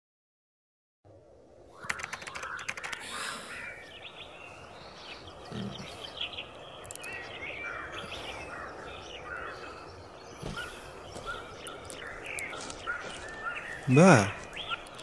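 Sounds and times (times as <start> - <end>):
outdoor background hiss: 1.1 - 15.0
small birds chirping: 1.6 - 15.0.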